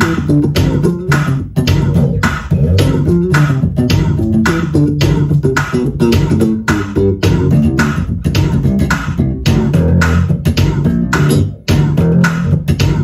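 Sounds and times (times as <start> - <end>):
drum beat: 0.0 - 13.0
funk bass guitar: 0.0 - 13.0.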